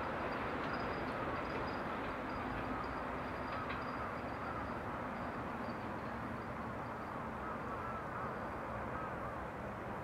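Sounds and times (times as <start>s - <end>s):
diesel train rumbling: 0.0s - 10.0s.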